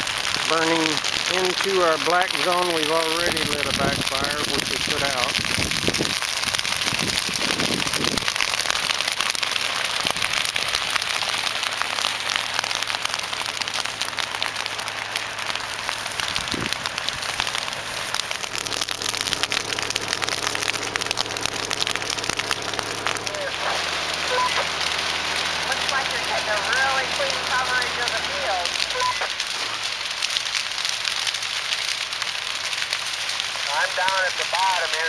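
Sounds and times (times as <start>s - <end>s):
dry grass burning crackle: 0.0s - 35.0s.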